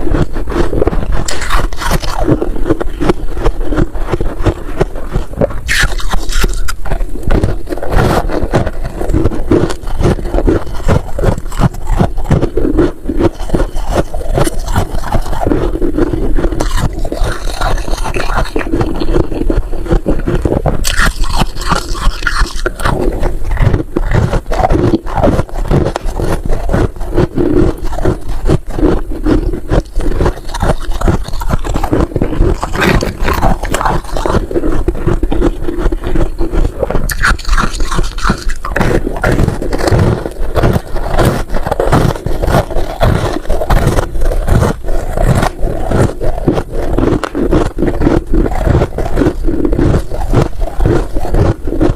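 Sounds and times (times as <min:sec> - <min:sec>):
frost crunching while chewed: 0:00.0 - 0:51.9.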